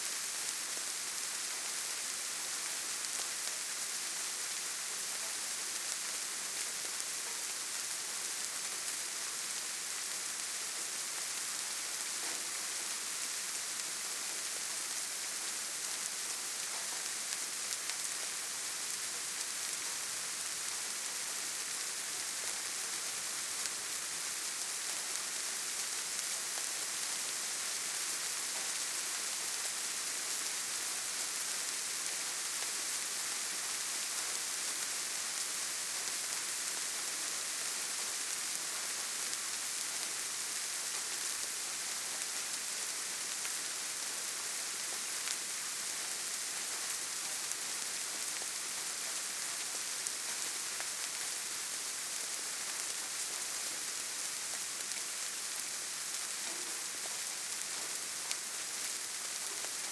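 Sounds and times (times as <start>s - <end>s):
steady rainfall hiss: 0.0s - 59.9s
louder raindrops: 0.1s - 59.9s.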